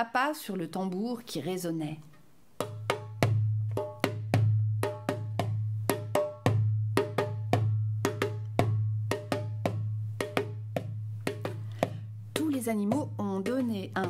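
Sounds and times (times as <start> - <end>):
hand drum beaten rhythmically: 2.6 - 14.0.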